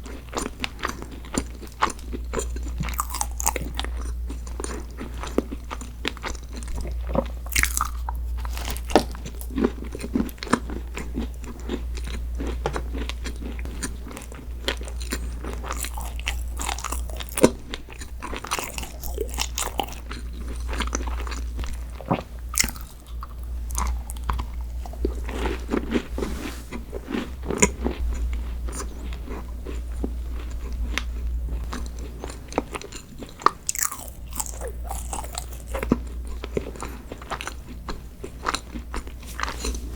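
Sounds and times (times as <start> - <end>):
crunchy chewing of desserts: 0.0 - 39.9
steady low hum: 0.0 - 39.9.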